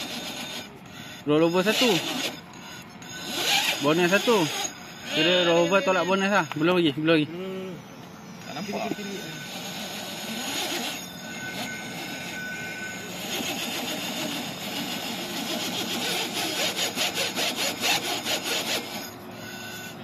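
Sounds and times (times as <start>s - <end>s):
electric motor grinding: 0.0s - 20.0s.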